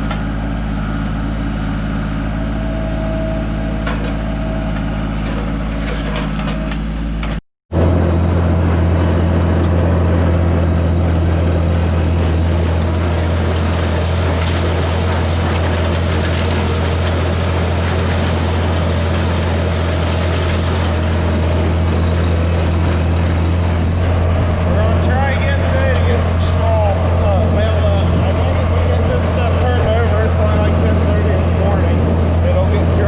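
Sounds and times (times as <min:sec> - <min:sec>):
vehicle engine humming steadily: 0:00.0 - 0:33.0.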